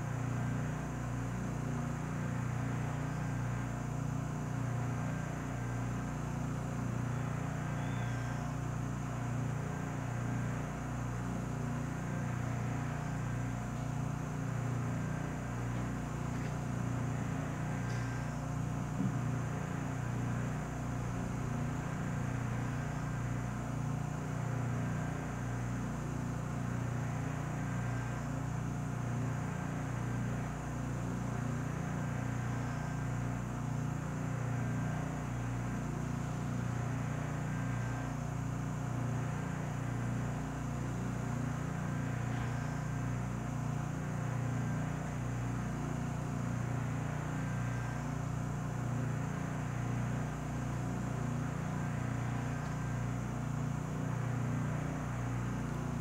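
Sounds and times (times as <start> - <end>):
vacuum furnace machine hum: 0.0 - 56.0.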